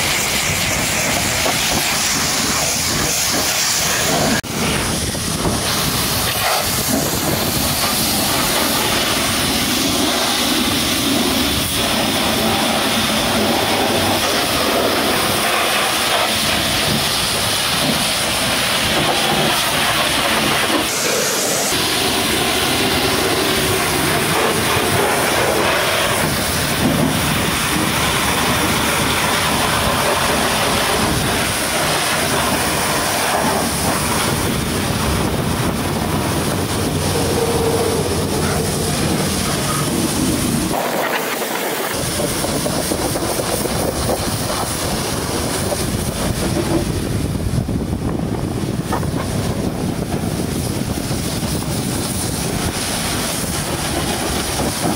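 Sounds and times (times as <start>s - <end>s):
pressure washer jet spraying: 0.0s - 46.6s.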